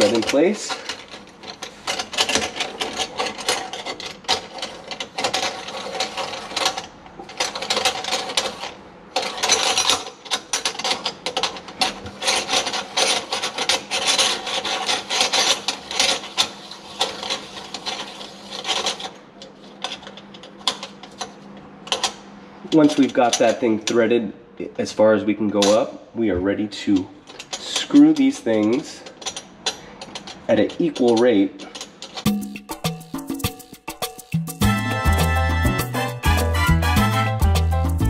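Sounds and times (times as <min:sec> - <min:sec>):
metal-on-metal scraping and clicks: 0:00.0 - 0:22.2, 0:26.9 - 0:36.0.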